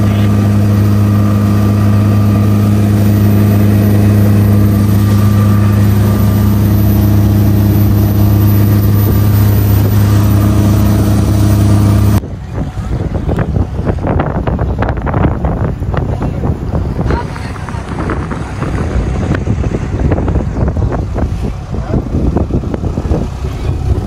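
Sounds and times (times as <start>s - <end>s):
boat engines running loud: 0.0s - 24.0s
wind buffeting microphone: 0.0s - 24.0s.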